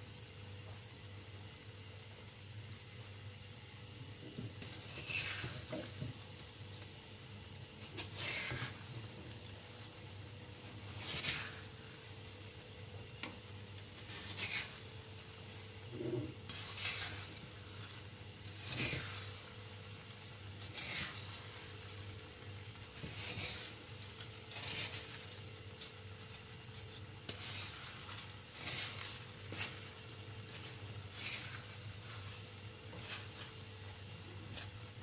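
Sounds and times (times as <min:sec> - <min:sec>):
spatula stirring nuts in a pan: 0:01.3 - 0:35.0.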